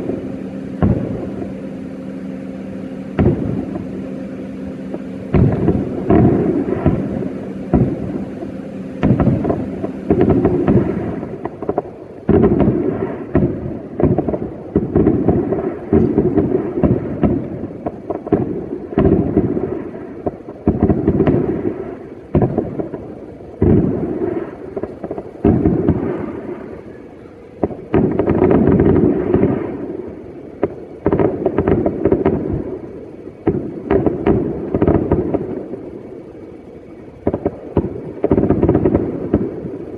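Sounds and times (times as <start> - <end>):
fireworks booming: 0.0 - 39.9.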